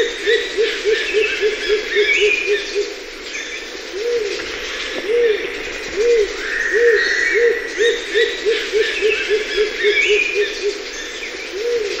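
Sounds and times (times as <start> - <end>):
dove hooting: 0.0 - 3.1, 3.8 - 12.0
birds chirping: 0.0 - 12.0.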